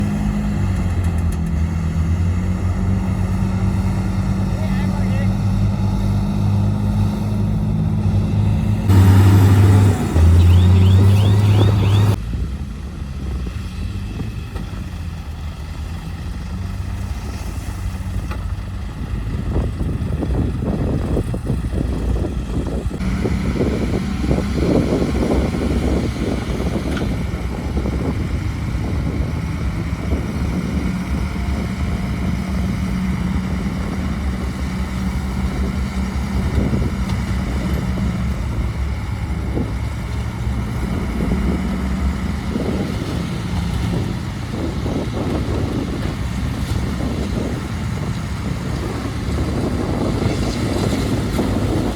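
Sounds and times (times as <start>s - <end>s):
dump truck diesel engine: 0.0s - 51.9s.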